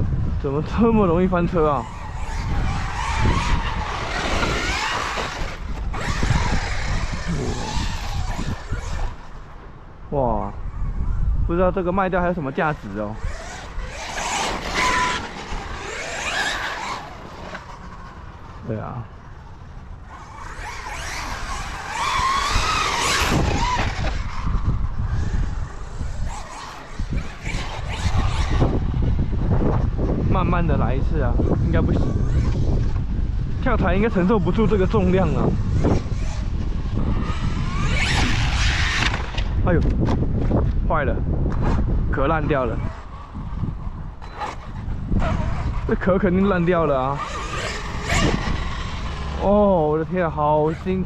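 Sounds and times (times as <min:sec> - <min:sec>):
electric motor whining: 0:00.0 - 0:51.0
tyre and drivetrain noise: 0:01.2 - 0:51.0.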